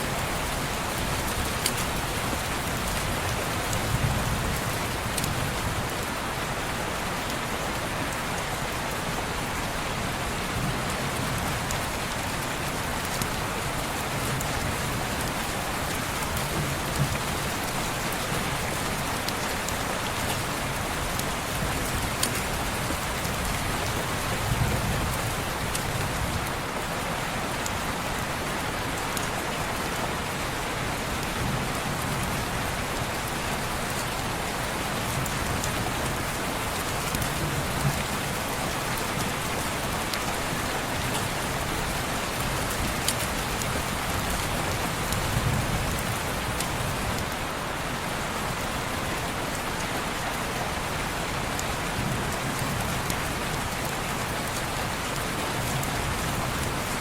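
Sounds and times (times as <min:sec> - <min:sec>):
rain on window glass: 0:08.1 - 0:57.0.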